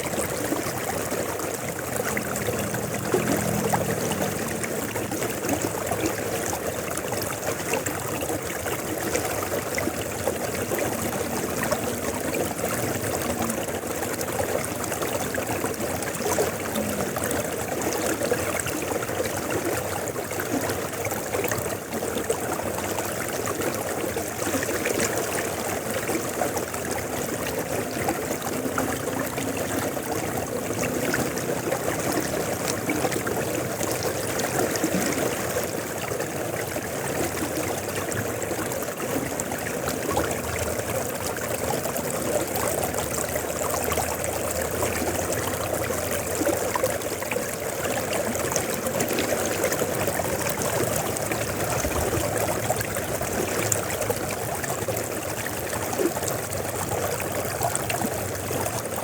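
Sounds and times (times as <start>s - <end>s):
river water rushing: 0.0s - 59.0s
water splashing and trickling: 0.0s - 59.0s.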